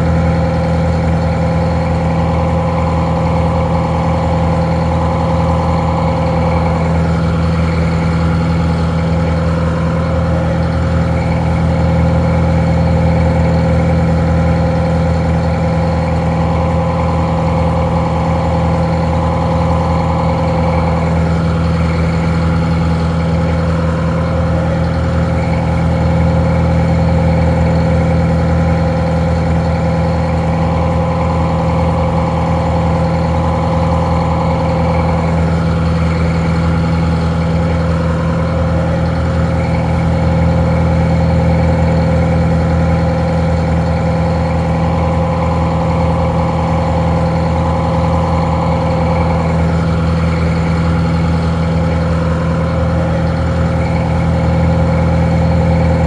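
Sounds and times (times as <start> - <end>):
diesel engine idling drone: 0.0 - 56.0.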